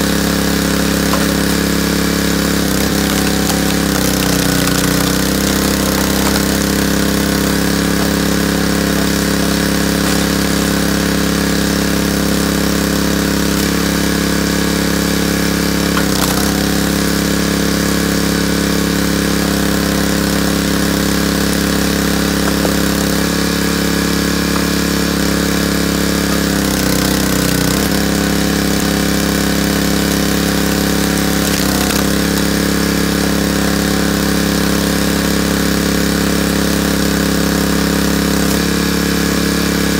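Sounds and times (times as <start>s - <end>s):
log splitter engine running: 0.0s - 39.9s.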